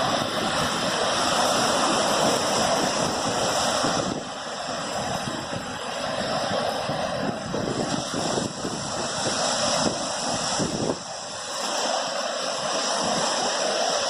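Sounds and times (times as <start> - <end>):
steady rushing hiss: 0.0 - 14.0
wind buffeting microphone: 0.0 - 14.0.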